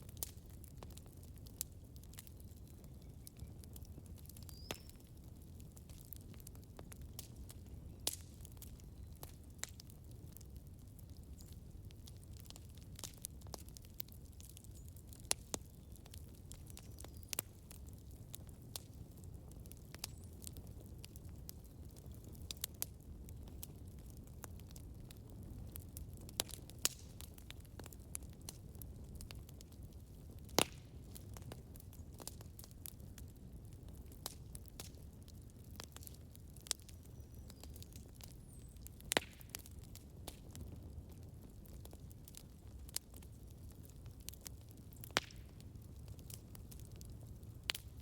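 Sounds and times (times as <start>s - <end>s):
burning wood rumble: 0.0s - 48.0s
fire pops and snaps: 0.0s - 48.0s.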